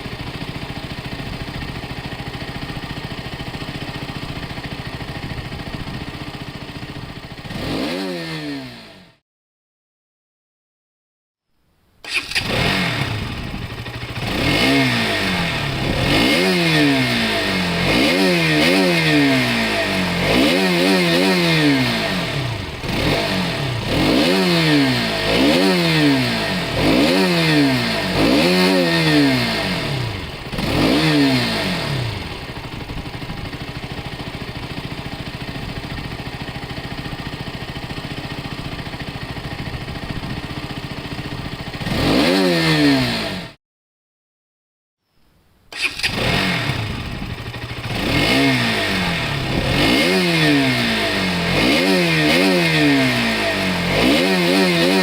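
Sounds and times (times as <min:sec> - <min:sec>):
motorcycle engine revving: 0:00.0 - 0:09.2, 0:12.0 - 0:43.6, 0:45.7 - 0:55.0.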